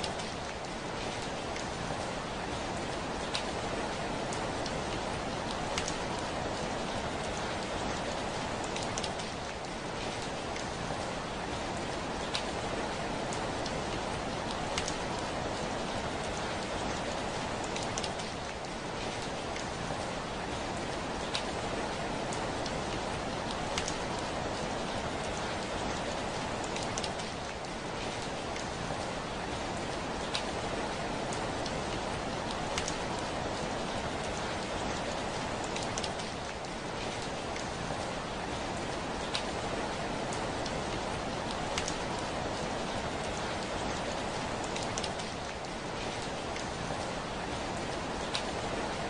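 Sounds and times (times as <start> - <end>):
rain hiss: 0.0 - 49.0.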